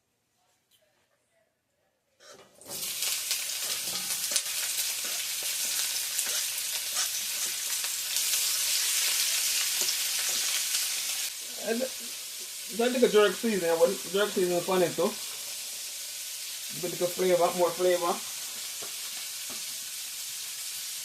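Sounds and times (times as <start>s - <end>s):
food sizzling in hot oil: 2.6s - 21.0s.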